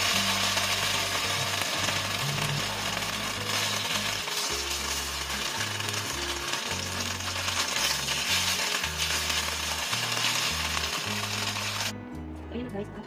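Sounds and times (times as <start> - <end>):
oil sizzling in a wok: 0.0 - 12.0
background music with bass: 0.0 - 13.0.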